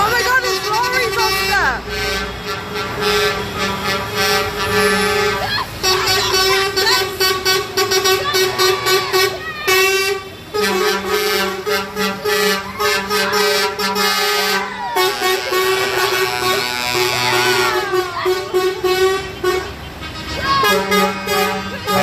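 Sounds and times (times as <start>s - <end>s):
tractor horns blasting: 0.0s - 22.0s.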